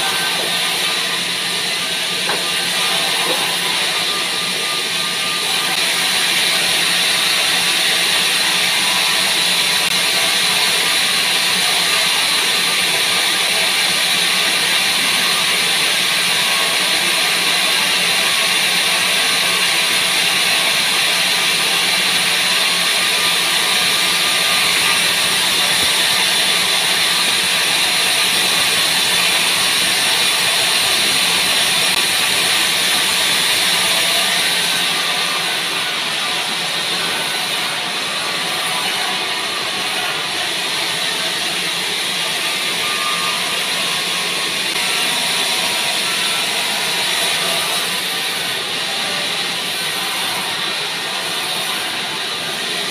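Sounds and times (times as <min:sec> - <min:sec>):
bandsaw running: 0:00.0 - 0:52.9.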